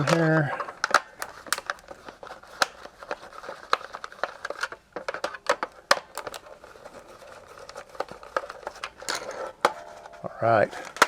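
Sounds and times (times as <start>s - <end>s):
screwdriver clicking on plastic: 0.0s - 9.8s.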